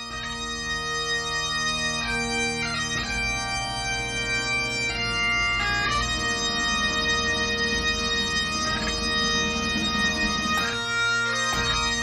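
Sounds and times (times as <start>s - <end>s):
bagpipe playing slow tune: 0.0s - 12.0s.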